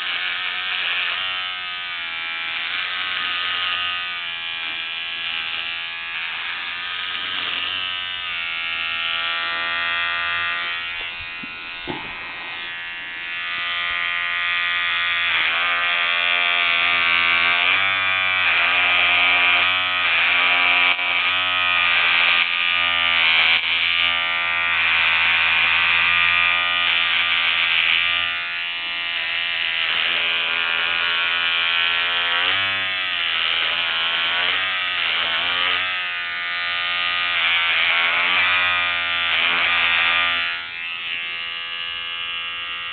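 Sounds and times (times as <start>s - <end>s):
electric shaver buzzing: 0.0s - 42.9s.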